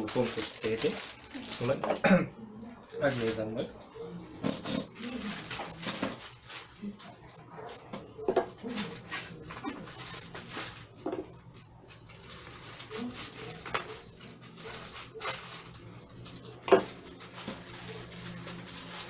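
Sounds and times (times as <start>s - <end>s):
packaging rustling: 0.0s - 2.1s, 2.8s - 3.6s, 4.6s - 19.0s.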